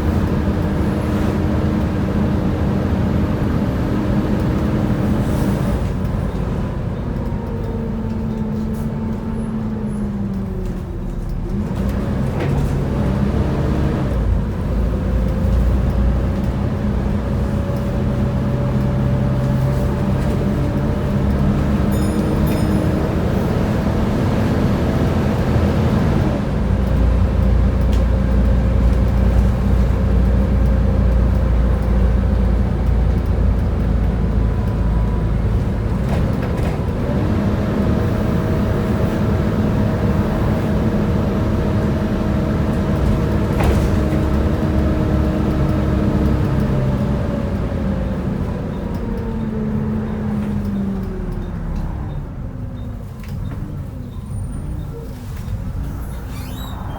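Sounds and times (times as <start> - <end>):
bus diesel engine running: 0.0 - 56.9.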